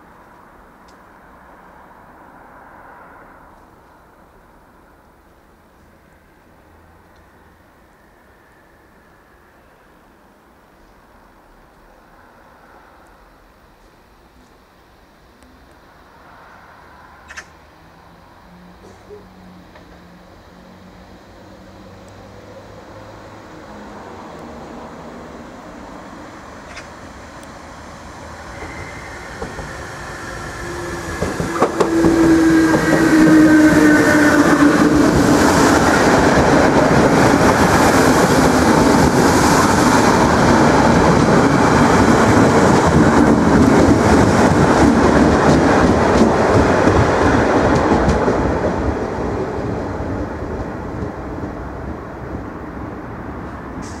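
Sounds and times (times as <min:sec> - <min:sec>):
electric train passing: 0:00.0 - 0:54.0
falling train whine: 0:00.0 - 0:54.0.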